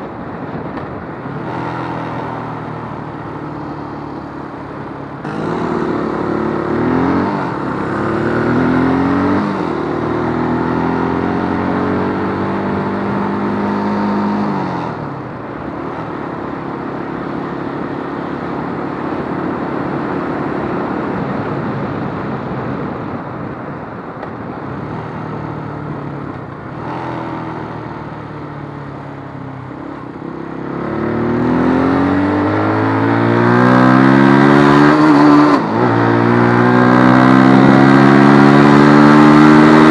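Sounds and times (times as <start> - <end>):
motorcycle engine shifting gears: 0.0 - 22.3, 24.1 - 39.9.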